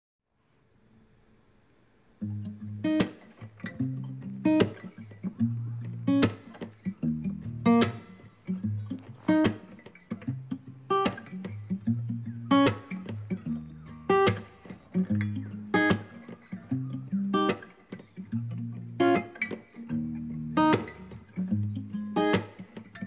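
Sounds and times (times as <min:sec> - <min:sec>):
plucked guitar: 0:02.2 - 0:23.0.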